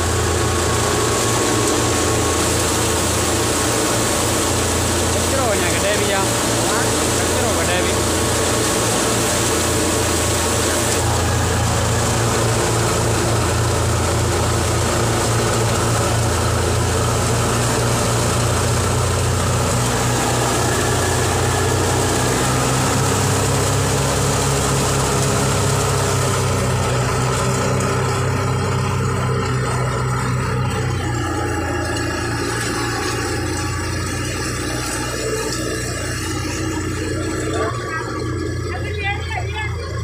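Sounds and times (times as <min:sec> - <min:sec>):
grain pouring: 0:00.0 - 0:38.7
thresher drum whirring: 0:00.0 - 0:40.0
tractor diesel engine running: 0:00.0 - 0:40.0.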